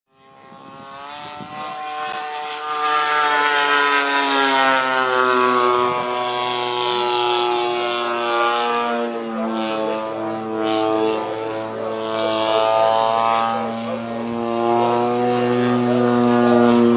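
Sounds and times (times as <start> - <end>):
model airplane engine droning: 0.1 - 16.9.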